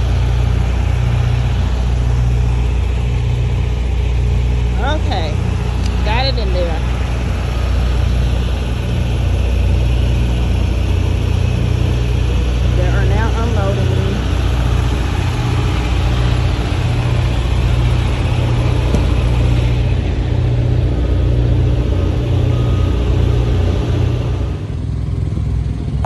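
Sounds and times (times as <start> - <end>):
diesel truck engine droning: 0.0 - 26.0.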